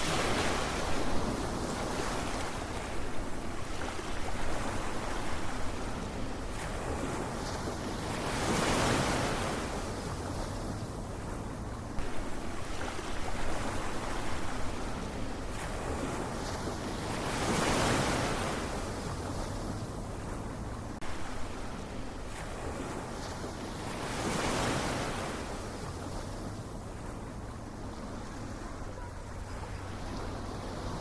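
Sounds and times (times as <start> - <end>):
ocean waves washing in: 0.0 - 31.0.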